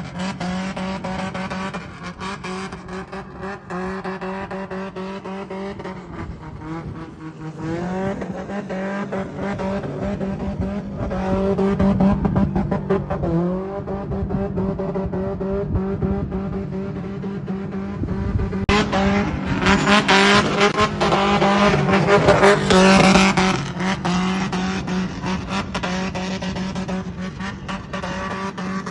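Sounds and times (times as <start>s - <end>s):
car engine revving hard: 0.0s - 28.9s.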